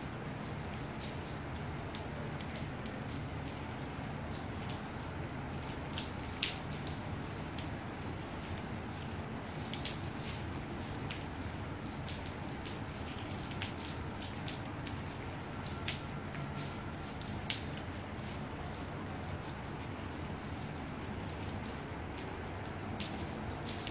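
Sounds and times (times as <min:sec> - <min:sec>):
light rain hiss: 0:00.0 - 0:23.9
raindrops ticking: 0:00.1 - 0:23.9.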